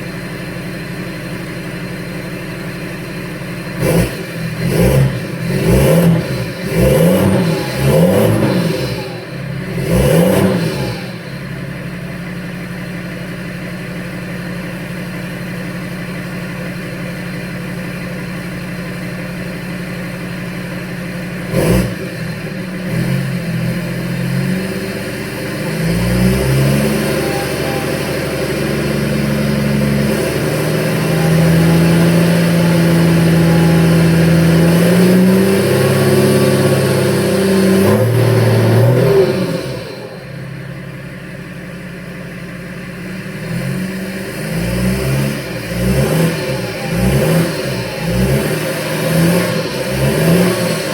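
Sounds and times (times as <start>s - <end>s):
loud raw diesel exhaust revving: 0.0s - 41.6s, 42.6s - 50.9s.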